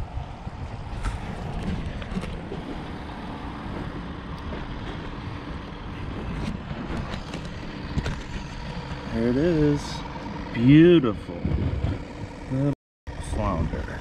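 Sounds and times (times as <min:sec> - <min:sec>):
wind rumbling on microphone: 0:00.0 - 0:09.1, 0:10.0 - 0:12.5.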